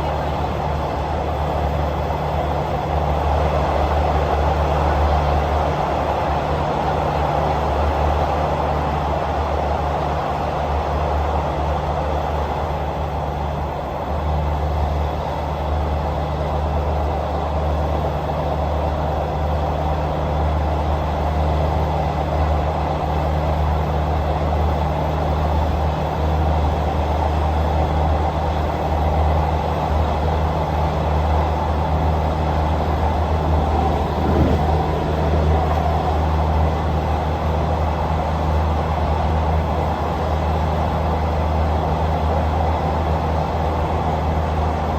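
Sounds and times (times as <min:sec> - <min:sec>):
passenger train running: 0:00.0 - 0:44.9.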